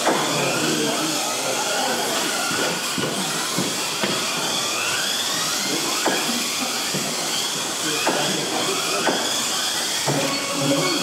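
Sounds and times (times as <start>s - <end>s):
small electric cars whining: 0.0s - 11.0s.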